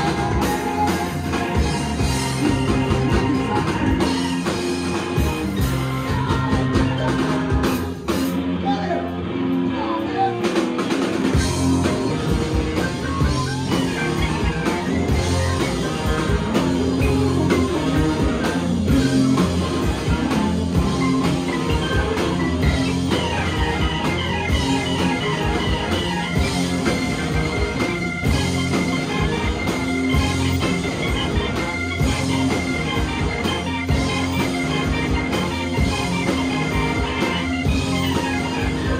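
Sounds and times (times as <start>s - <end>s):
live rock and roll band: 0.0s - 38.9s.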